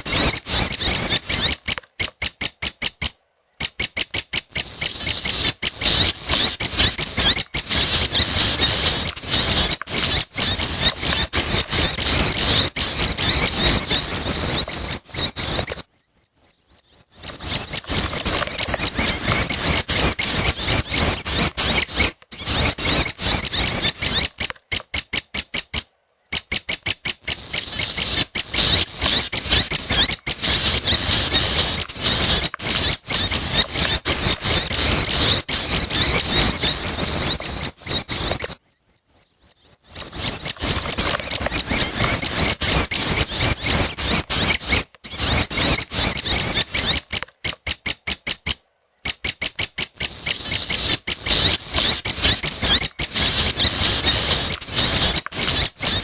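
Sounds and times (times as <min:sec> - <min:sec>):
young bird squeaky chatter: 0:00.0 - 0:56.0.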